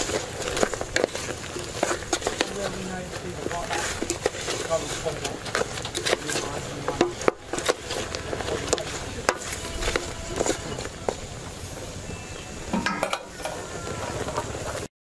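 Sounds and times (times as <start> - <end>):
meat sizzling: 0.0 - 14.9
wooden spatula scraping a pot: 0.0 - 14.9.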